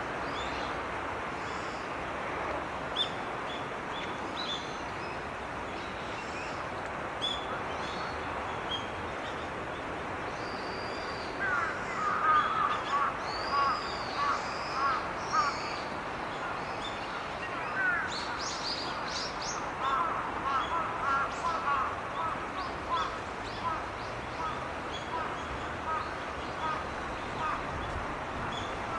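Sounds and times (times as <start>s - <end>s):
flowing stream water: 0.0s - 28.9s.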